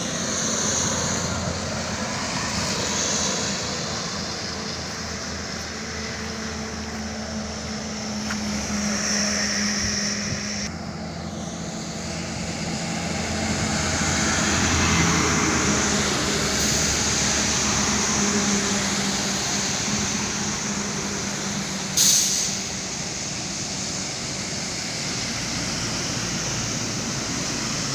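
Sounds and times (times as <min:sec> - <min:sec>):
road noise: 0:00.0 - 0:27.9
truck engine running: 0:00.0 - 0:27.9.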